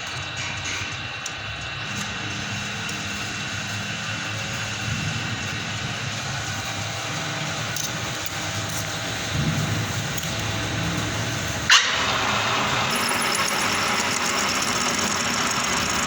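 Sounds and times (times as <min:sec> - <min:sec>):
metal lathe humming: 0:01.7 - 0:16.0.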